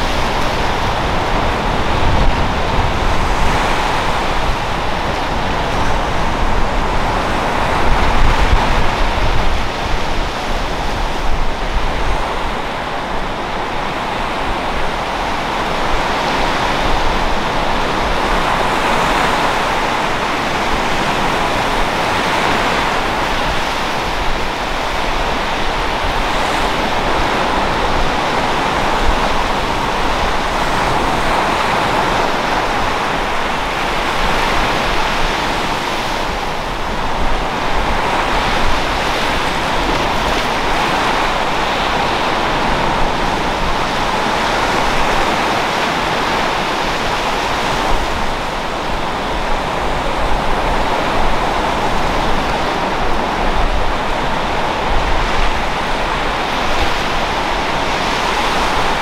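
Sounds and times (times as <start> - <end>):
surf washing onto beach: 0.0 - 59.0.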